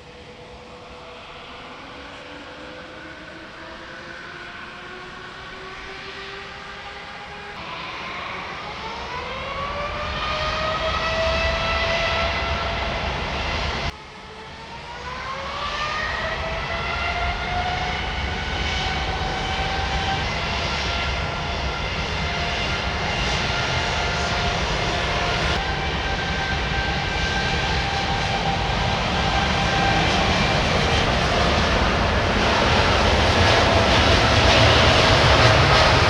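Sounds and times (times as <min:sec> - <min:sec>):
jet engines spooling up: 0:00.0 - 0:36.0.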